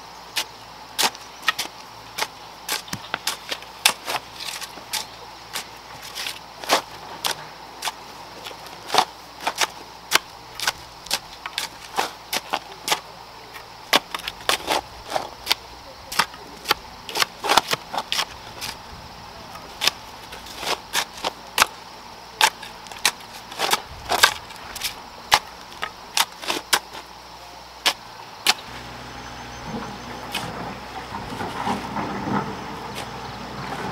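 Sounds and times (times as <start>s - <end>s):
hoes chopping stony soil: 0.3s - 27.2s, 27.8s - 33.9s.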